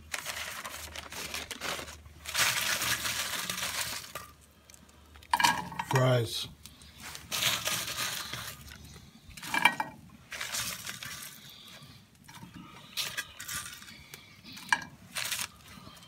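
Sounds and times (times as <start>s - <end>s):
crumpled paper rustling: 0.0s - 4.8s, 6.8s - 9.5s, 10.2s - 16.0s.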